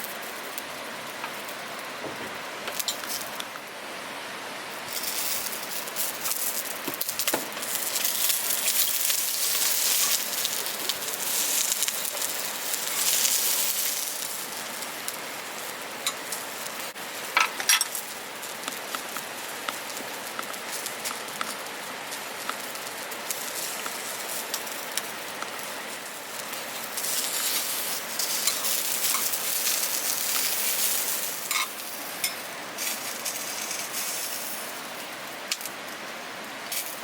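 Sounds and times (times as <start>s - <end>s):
fire crackles: 0.0s - 37.0s
sausages sizzling on a grill: 0.0s - 37.0s.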